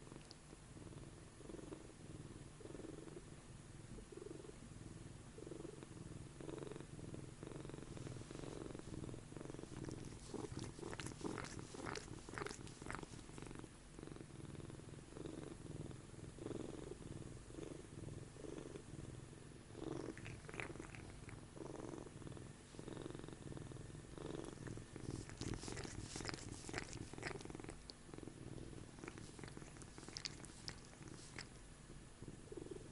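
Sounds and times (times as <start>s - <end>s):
cat purring: 0.0s - 32.9s.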